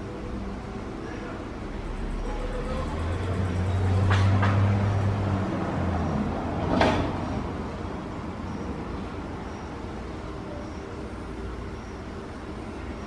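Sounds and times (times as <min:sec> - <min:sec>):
low rumble of distant traffic: 0:00.0 - 0:13.0.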